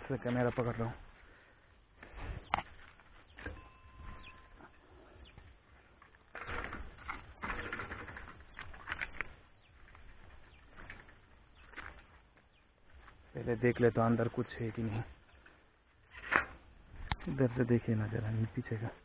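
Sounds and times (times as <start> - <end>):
bicycle pushed on dirt trail: 0.0 - 18.5.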